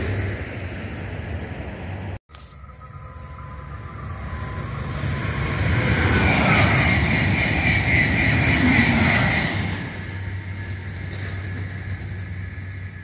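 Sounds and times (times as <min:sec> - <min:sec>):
high-speed train passing: 0:00.0 - 0:13.0
steady high whine: 0:00.0 - 0:13.0.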